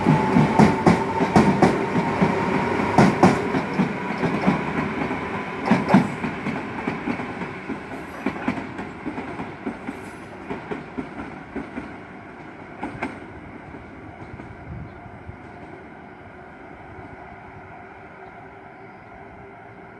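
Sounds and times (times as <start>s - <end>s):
train rumble: 0.0s - 19.9s.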